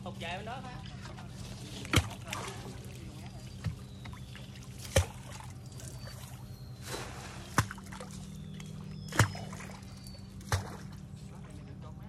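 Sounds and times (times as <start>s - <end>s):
water trickling and sloshing: 0.0s - 11.8s
steady low hum: 0.0s - 12.0s.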